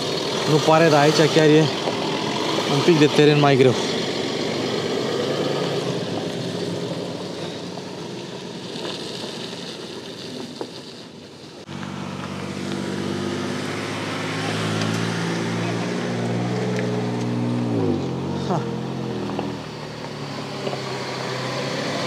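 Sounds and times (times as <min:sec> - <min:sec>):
steady engine drone: 0:00.0 - 0:08.4, 0:11.7 - 0:22.0
pickup engine running at low revs: 0:00.0 - 0:09.8, 0:11.7 - 0:22.0.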